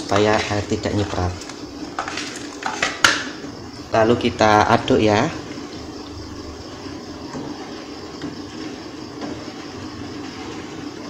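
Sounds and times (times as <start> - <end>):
water heating on gas stove: 0.0 - 11.0.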